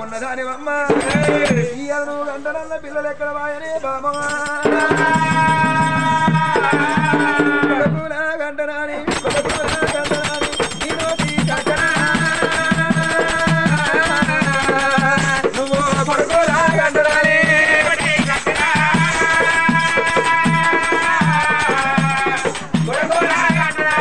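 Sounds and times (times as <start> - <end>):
jingling rattle percussion: 0.0 - 8.0, 9.0 - 24.0
barrel drum beating: 0.9 - 1.7, 4.2 - 8.1, 9.1 - 24.0.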